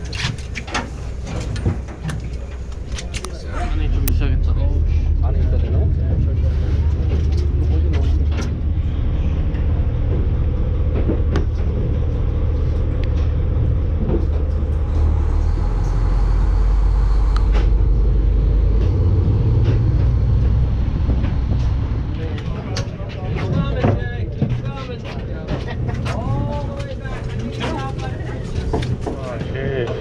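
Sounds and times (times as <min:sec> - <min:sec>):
boat engine low rumble: 0:00.0 - 0:30.0.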